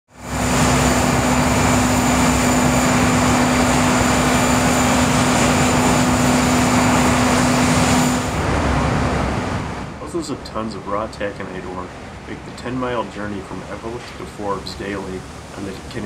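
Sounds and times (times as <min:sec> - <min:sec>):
locomotive engine drone: 0:00.1 - 0:16.0
low hum: 0:00.1 - 0:16.0
rushing noise: 0:00.1 - 0:16.0.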